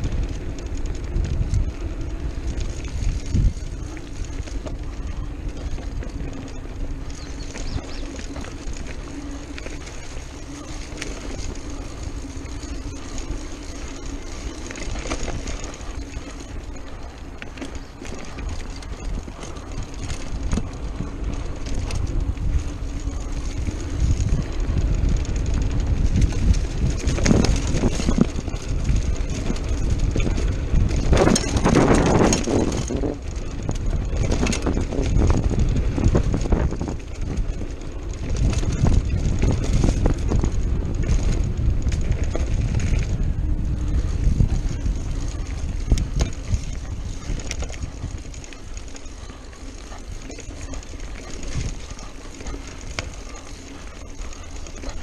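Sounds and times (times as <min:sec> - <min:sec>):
bike knocking and rattling: 0:00.0 - 0:55.0
tyres rumbling over dirt trail: 0:00.0 - 0:55.0
wind buffeting microphone: 0:00.0 - 0:55.0.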